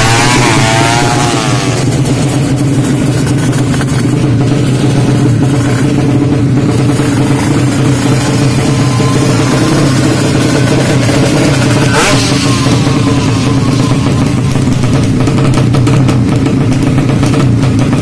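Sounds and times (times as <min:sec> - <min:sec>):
loud motorcycle engine running: 0:00.0 - 0:18.0.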